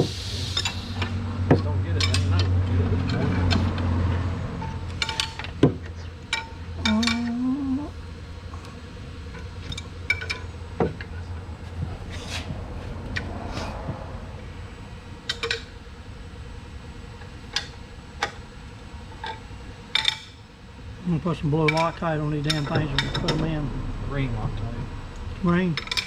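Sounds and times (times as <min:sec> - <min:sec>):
low shop hum: 0:00.0 - 0:26.0.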